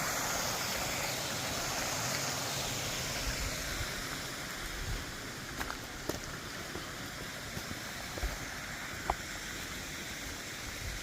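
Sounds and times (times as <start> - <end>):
creek water over rocks: 0.0 - 11.0.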